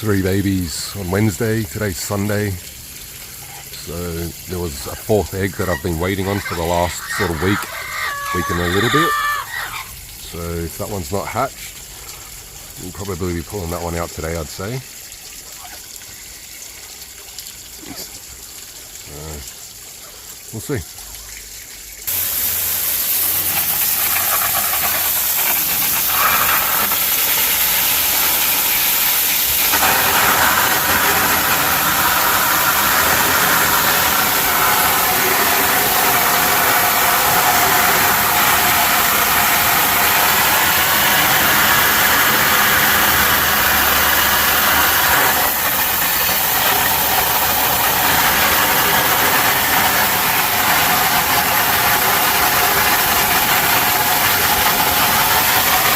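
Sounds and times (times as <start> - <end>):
hose spraying water: 0.0 - 55.9.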